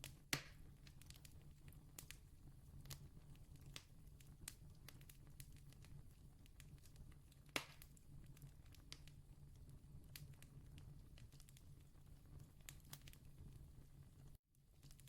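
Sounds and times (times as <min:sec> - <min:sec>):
distant campfire crackling: 0:00.0 - 0:15.0.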